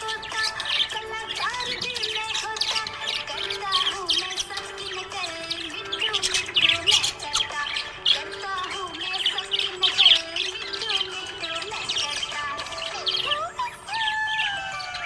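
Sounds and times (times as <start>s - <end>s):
background music: 0.0s - 15.0s
budgerigars chirping: 0.0s - 15.0s.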